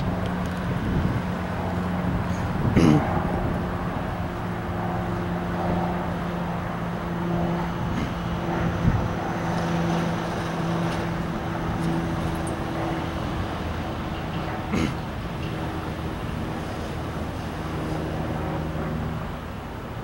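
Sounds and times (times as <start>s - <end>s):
freight train rumbling: 0.0s - 18.0s
low hum: 0.0s - 19.7s.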